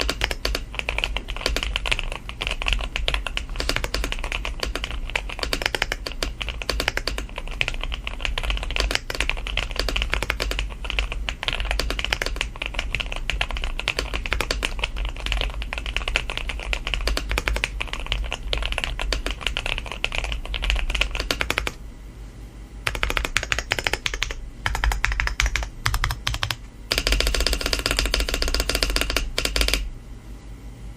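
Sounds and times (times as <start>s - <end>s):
mechanical keyboard typing: 0.0s - 21.8s, 22.8s - 29.9s.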